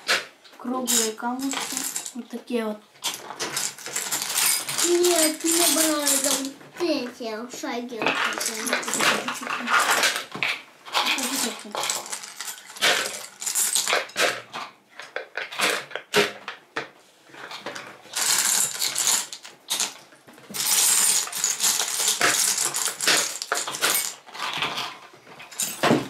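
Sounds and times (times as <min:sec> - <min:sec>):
pebbles clattering into plastic bottle: 0:00.0 - 0:07.1, 0:08.0 - 0:26.0.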